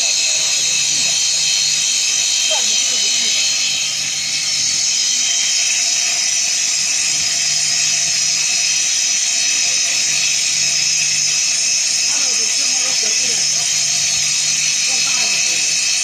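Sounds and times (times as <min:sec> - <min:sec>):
lathe whining and hissing: 0:00.0 - 0:16.0.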